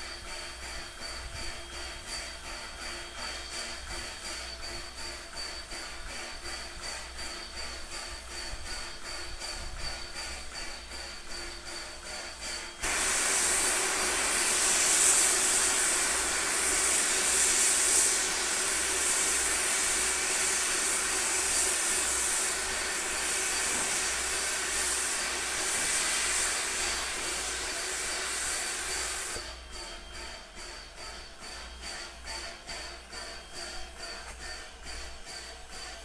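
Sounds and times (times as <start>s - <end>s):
train venting steam hiss: 0.0s - 29.8s.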